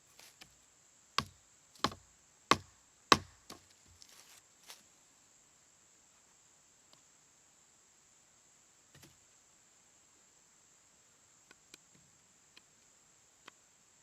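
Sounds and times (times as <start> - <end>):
faint high hiss: 0.0 - 14.0.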